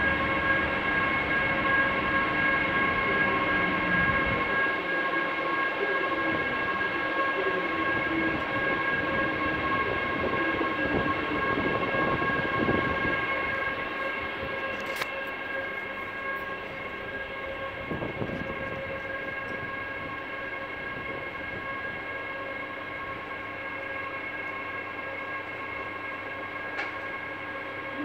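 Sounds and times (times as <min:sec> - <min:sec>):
electric locomotive hum and whine: 0:00.0 - 0:28.0.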